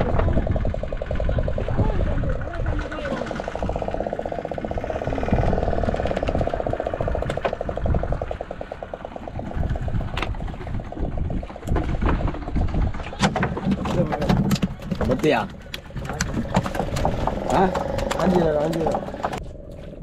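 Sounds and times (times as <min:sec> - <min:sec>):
boat engine pulsing: 0:00.0 - 0:20.0
low rumble: 0:00.0 - 0:20.0.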